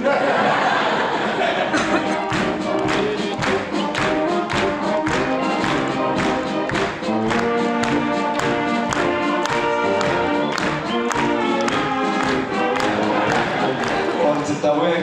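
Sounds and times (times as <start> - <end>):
brass band playing: 0.9 - 14.9
tuba bass line: 1.6 - 14.2.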